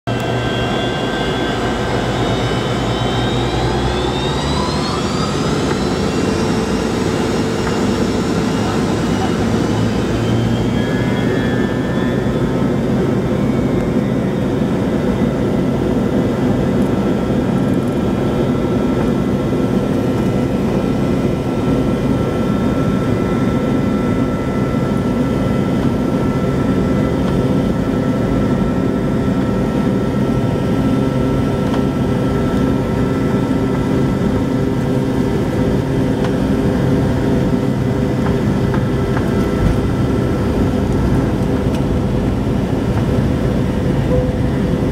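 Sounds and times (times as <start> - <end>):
jet engine roar with whine: 0.1 - 44.9
wheels rumbling on runway: 0.1 - 44.9.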